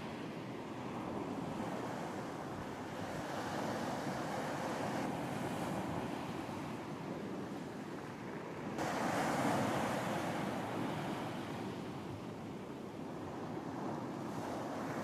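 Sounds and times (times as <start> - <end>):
ocean waves washing onto beach: 0.0 - 15.0.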